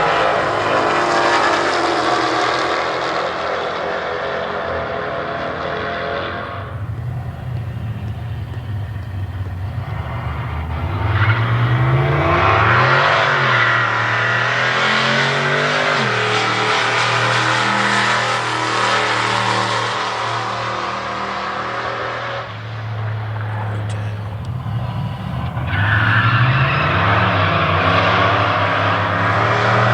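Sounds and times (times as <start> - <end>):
drag car engines revving and launching: 0.0 - 29.9.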